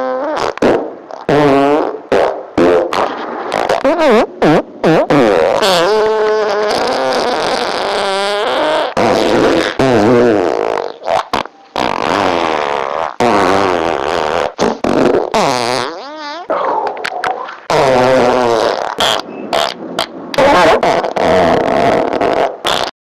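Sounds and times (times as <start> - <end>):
farts: 0.0 - 16.5, 17.7 - 23.0.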